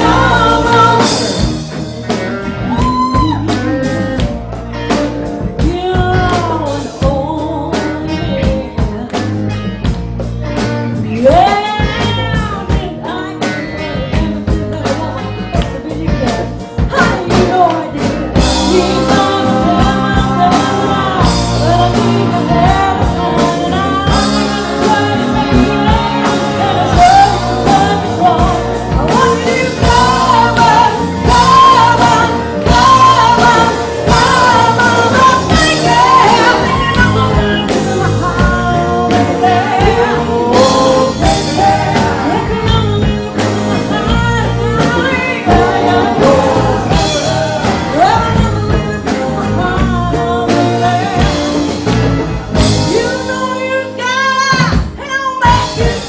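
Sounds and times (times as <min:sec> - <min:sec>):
woman singing: 0:00.0 - 0:01.6, 0:02.7 - 0:09.8, 0:10.5 - 0:52.0, 0:52.6 - 0:56.0
rock band playing: 0:00.0 - 0:56.0.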